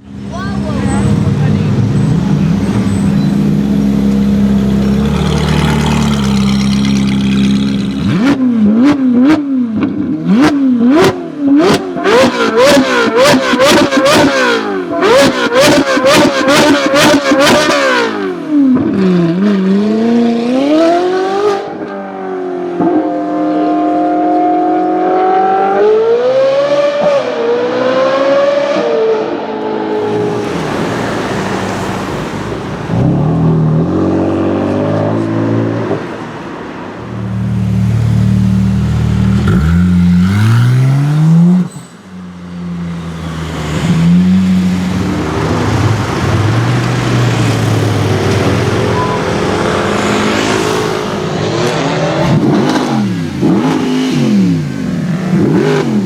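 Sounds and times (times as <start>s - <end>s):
sports car engines revving: 0.0s - 56.0s.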